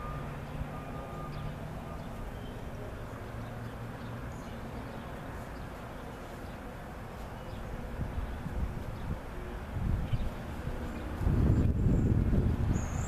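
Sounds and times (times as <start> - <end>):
faint engine hum: 0.0 - 13.0.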